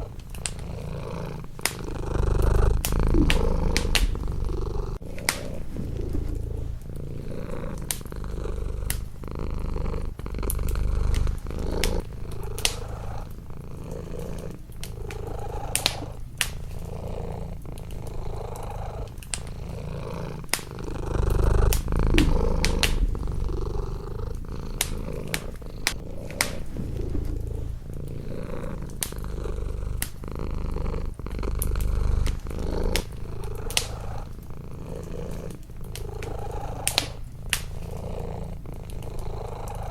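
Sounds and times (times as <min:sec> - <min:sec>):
cat purring: 0:00.0 - 0:39.9
wood fire crackling: 0:00.0 - 0:39.9.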